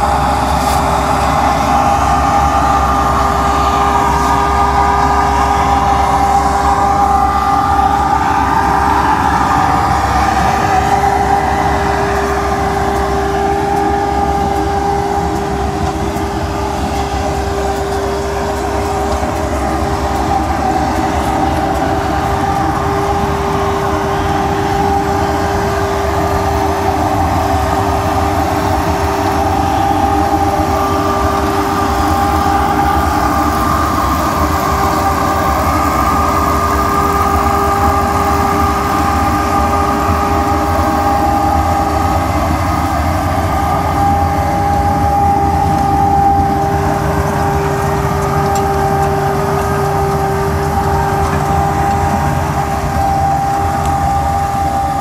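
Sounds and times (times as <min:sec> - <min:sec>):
steady whining tones: 0:00.0 - 0:55.0
tractor and harvester running: 0:00.0 - 0:55.0.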